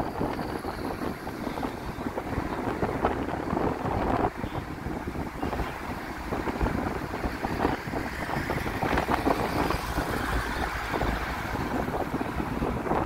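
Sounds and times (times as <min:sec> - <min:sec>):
bus engine and road noise: 0:00.0 - 0:13.0
wind buffeting microphone: 0:00.0 - 0:13.0.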